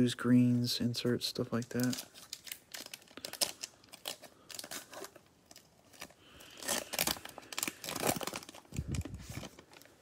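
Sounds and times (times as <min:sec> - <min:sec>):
cellophane wrapper crinkling: 0:01.4 - 0:10.0.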